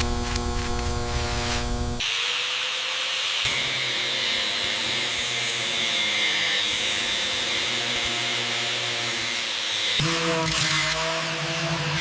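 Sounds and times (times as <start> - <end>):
power tool hissing: 0.0 - 10.8.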